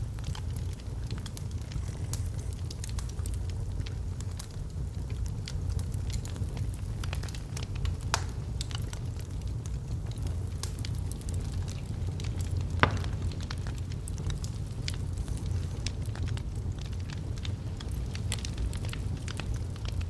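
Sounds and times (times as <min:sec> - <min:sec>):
wood fire crackling: 0:00.0 - 0:20.0
sharp pops of burning logs: 0:00.1 - 0:20.0.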